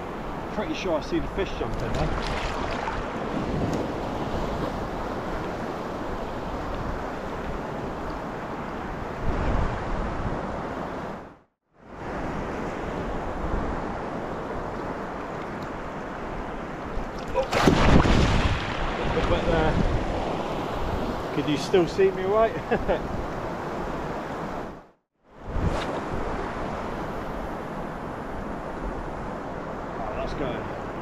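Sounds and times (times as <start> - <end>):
surf washing on beach: 0.0 - 24.8, 25.4 - 31.0
wind on microphone: 1.2 - 21.9, 22.5 - 31.0.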